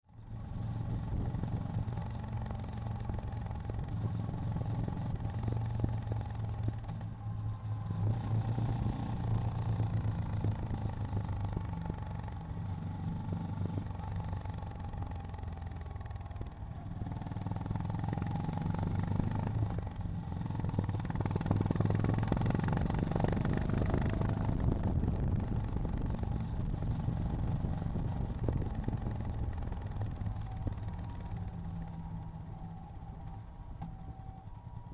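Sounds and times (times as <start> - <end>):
road and wind noise: 0.0 - 34.9
motorcycle engine running: 0.1 - 34.9.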